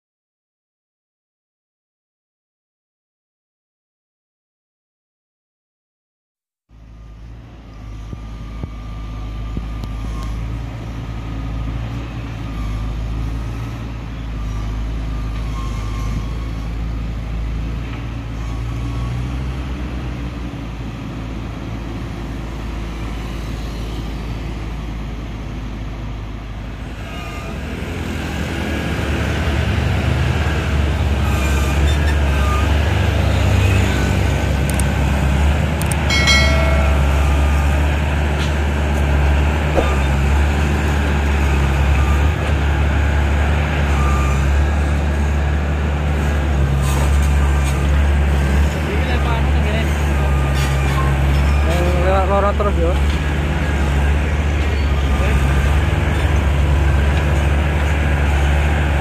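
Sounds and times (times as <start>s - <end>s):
diesel engines running: 6.8s - 59.0s.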